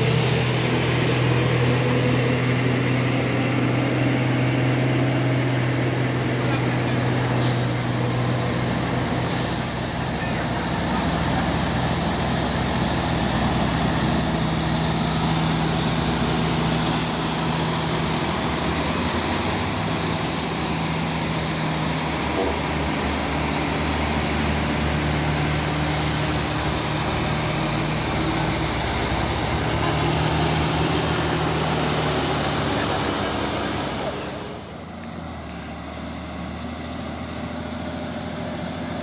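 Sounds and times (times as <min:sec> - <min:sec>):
truck diesel engine droning: 0:00.0 - 0:39.0.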